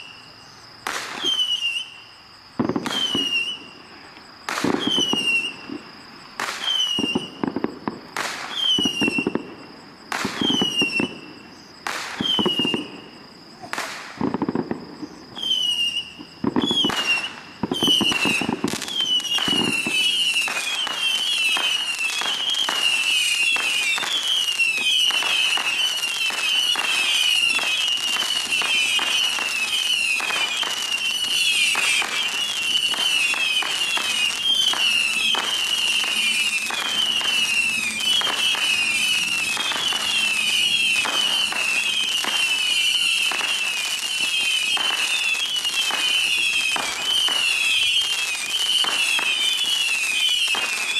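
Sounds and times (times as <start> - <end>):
rockets whistling shrilly: 0.0 - 50.9
firework pops and crackles: 0.8 - 50.9.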